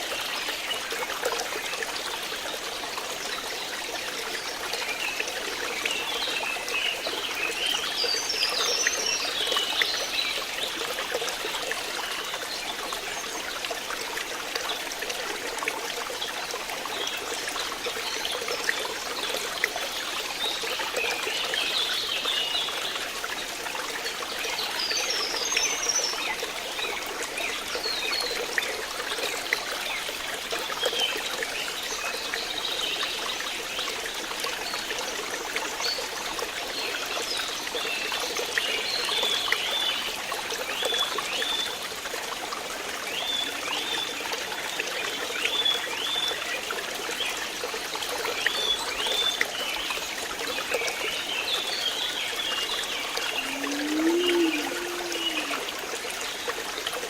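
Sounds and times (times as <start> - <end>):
water trickling and babbling: 0.0 - 57.0.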